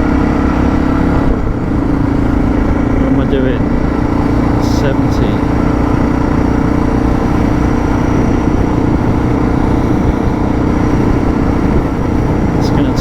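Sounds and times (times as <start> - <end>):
motorcycle engine cruising: 0.0 - 13.0
wind noise: 0.0 - 13.0.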